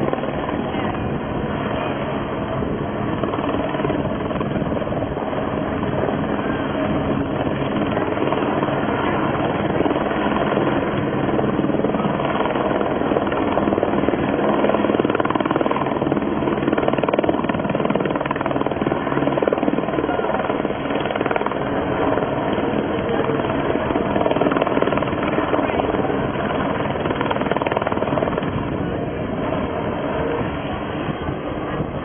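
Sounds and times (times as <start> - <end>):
helicopter rotor chopping: 0.0 - 32.0.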